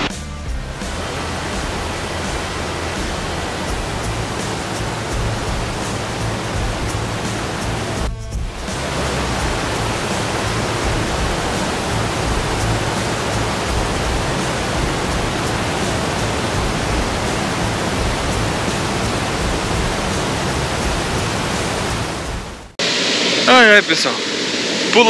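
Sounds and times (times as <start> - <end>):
waterfall roaring: 0.8 - 25.0.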